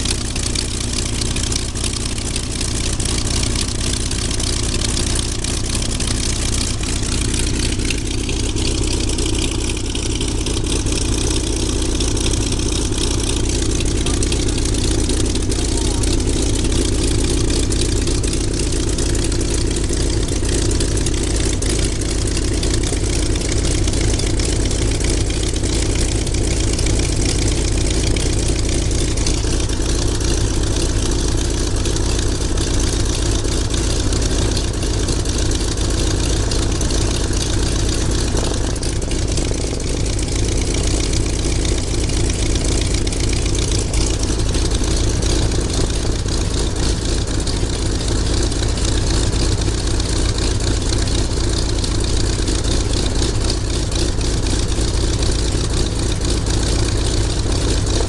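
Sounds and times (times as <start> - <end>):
propeller aircraft engines idling: 0.0 - 58.0.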